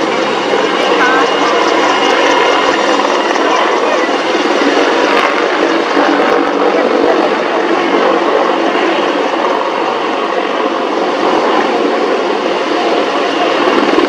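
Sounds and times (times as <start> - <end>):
crowd voices: 0.0 - 14.0
helicopter turbine and rotor noise: 0.0 - 14.0.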